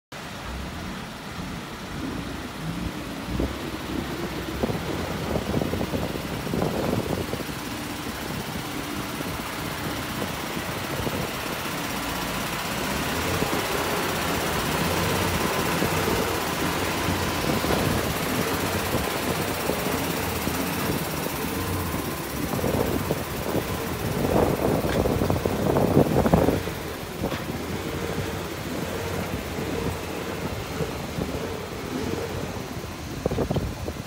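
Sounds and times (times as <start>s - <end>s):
truck diesel engine idling: 0.1s - 34.0s.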